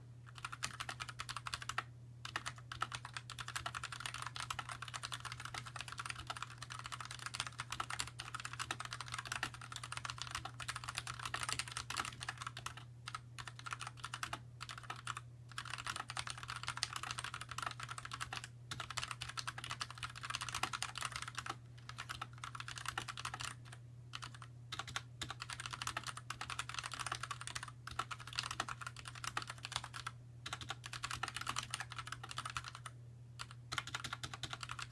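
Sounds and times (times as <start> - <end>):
fast mechanical keyboard typing: 0.3 - 34.9.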